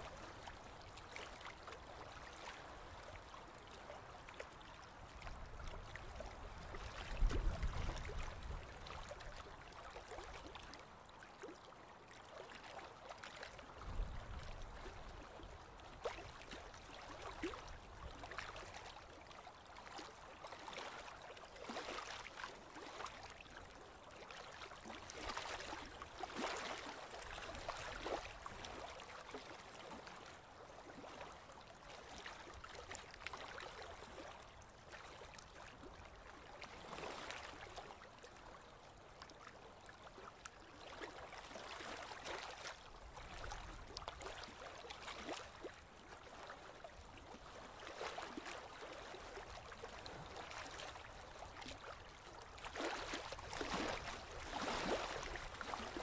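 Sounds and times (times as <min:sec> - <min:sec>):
water gurgling along boat hull: 0:00.0 - 0:56.0.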